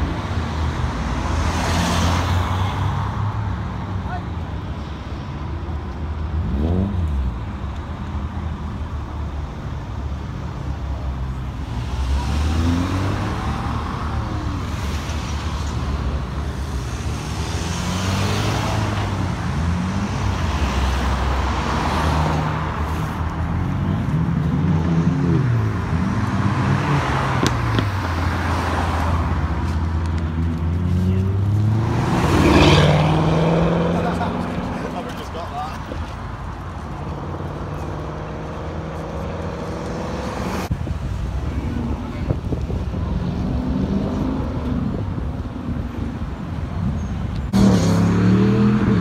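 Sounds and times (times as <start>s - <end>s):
cars driving past: 0.0s - 49.0s
road noise: 0.0s - 49.0s.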